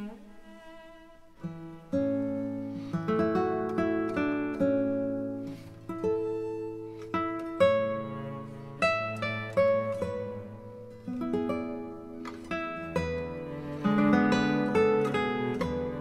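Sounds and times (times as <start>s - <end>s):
plucked guitar melody: 1.3s - 16.0s.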